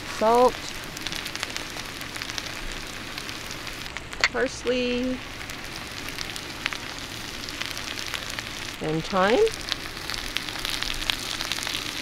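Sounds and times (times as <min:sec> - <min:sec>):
potatoes and onions sizzling in oil: 0:00.0 - 0:12.0.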